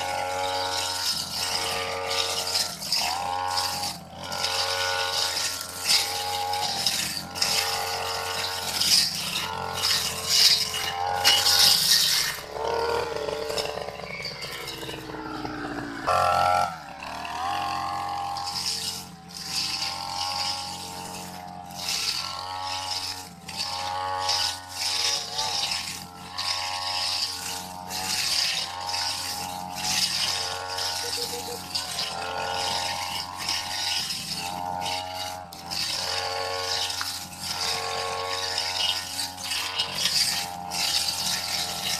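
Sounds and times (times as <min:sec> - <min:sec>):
brush cutter running: 0:00.0 - 0:41.9
grass stalks rattling on blade: 0:00.0 - 0:41.9.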